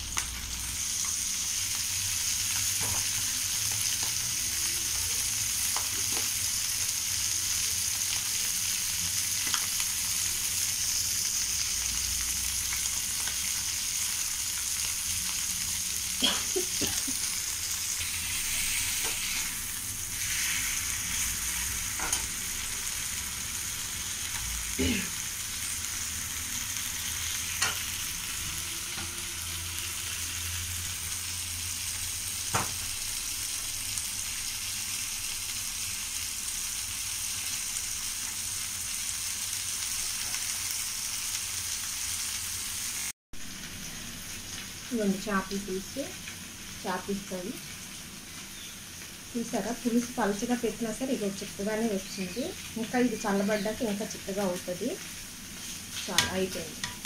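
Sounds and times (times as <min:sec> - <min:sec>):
fish sizzling in oil: 0:00.0 - 0:57.0.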